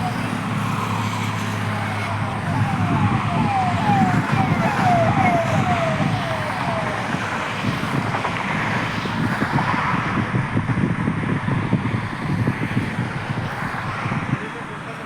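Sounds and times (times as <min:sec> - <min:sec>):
distant traffic: 0:00.0 - 0:15.0
wind: 0:00.0 - 0:15.0.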